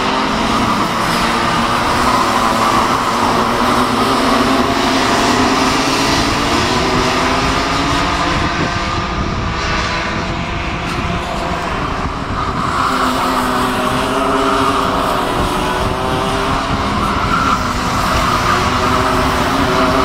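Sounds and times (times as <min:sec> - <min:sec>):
racing kart engines: 0:00.0 - 0:20.0.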